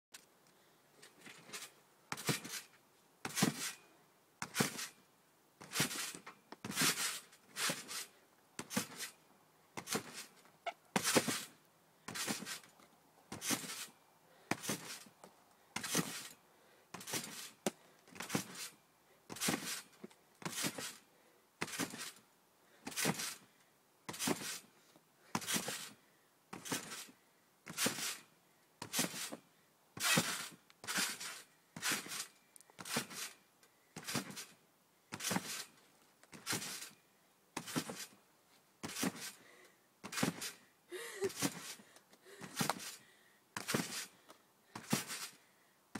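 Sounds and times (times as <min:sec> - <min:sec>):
trampoline mat and springs swishing: 0:01.0 - 0:22.2, 0:22.8 - 0:23.5, 0:24.1 - 0:24.7, 0:25.3 - 0:33.4, 0:34.0 - 0:37.0, 0:37.6 - 0:38.2, 0:38.8 - 0:39.4, 0:40.0 - 0:43.0, 0:43.6 - 0:45.4.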